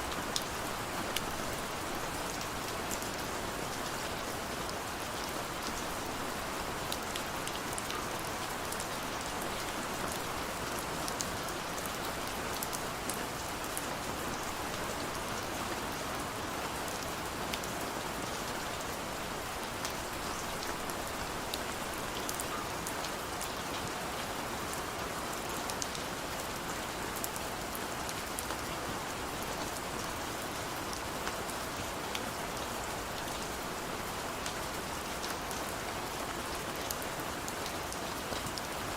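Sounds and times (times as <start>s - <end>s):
heavy rain on a hard surface: 0.0s - 38.9s.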